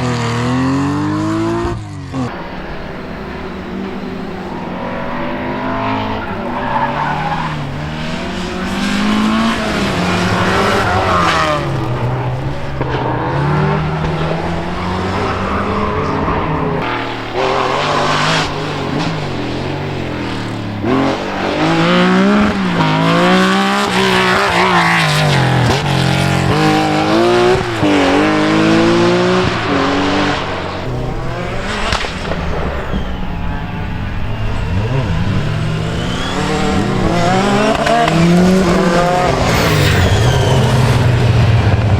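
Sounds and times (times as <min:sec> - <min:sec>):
rally car engine revving hard: 0:00.0 - 0:41.9.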